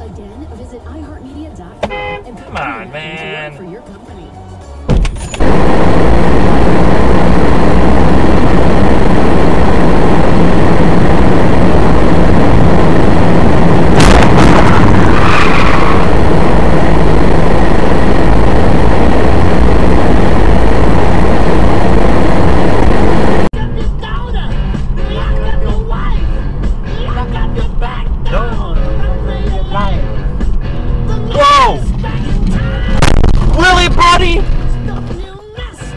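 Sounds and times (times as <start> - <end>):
car road and engine noise: 0.0 - 35.9.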